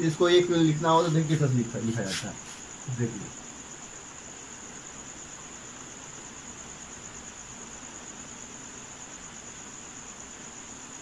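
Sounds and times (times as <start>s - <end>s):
cricket trilling: 0.0s - 11.0s
faint hiss: 0.0s - 11.0s.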